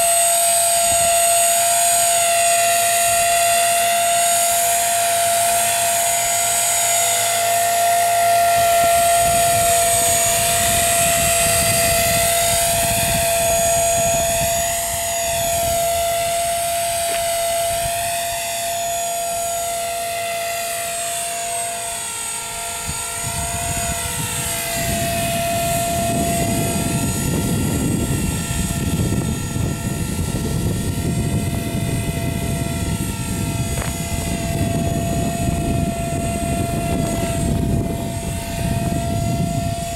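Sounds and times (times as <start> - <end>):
rc helicopter high whine: 0.0 - 39.9.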